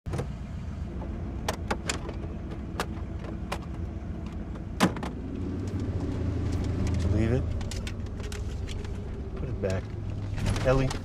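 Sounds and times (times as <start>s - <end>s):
car cabin hum: 0.1s - 11.0s.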